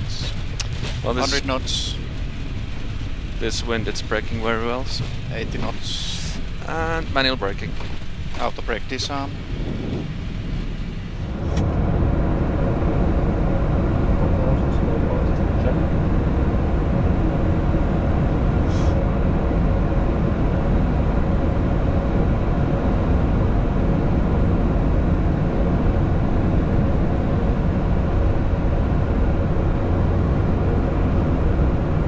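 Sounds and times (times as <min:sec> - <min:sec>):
airliner engines idling rumble: 0:00.0 - 0:32.0.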